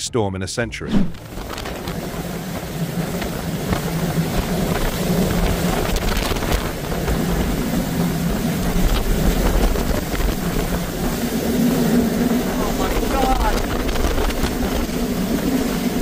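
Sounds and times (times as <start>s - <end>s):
strong wind rushing in gusts: 1.0s - 16.0s
wind buffeting microphone: 1.0s - 16.0s.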